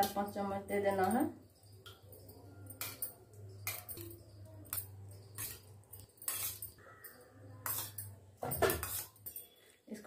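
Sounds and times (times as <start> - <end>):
spoon clinking on steel bowl: 0.0 - 9.8.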